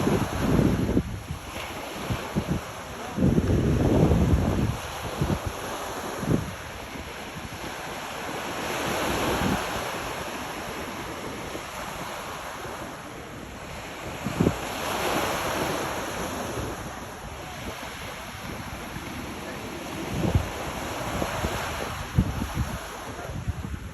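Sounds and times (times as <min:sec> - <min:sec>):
sea waves washing onto shore: 0:00.0 - 0:23.9
wind buffeting microphone: 0:00.0 - 0:23.9.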